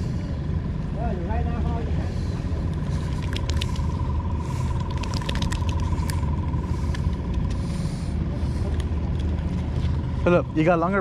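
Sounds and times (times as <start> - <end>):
low machine rumble: 0.0 - 11.0
thin steady whine: 0.0 - 11.0.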